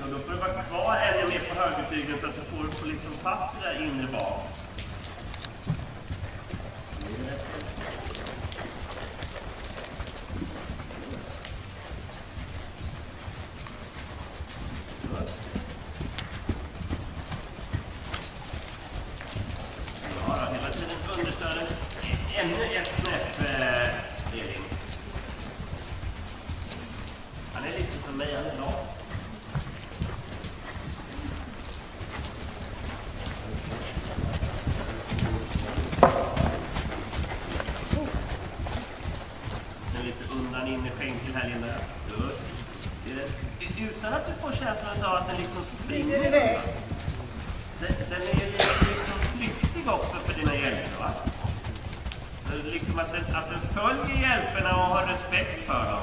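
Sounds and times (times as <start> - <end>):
horse hoofbeats: 0.0 - 56.0.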